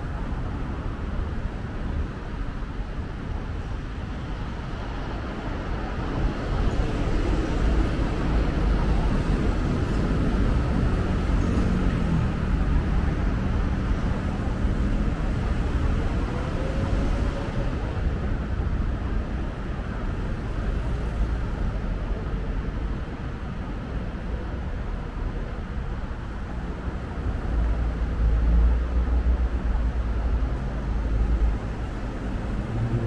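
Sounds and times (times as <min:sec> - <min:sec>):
city road traffic rumble: 0:00.0 - 0:33.0.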